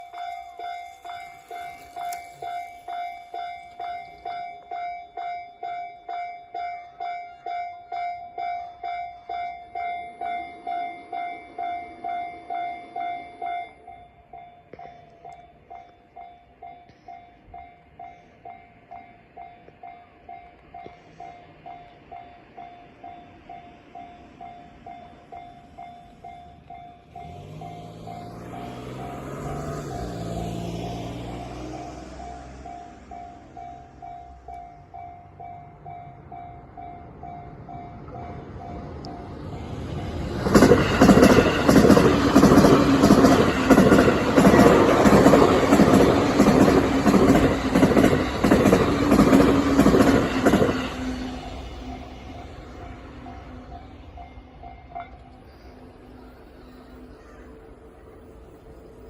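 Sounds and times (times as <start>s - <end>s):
level crossing warning bell: 0.0s - 59.0s
low hum of a train: 0.0s - 59.0s.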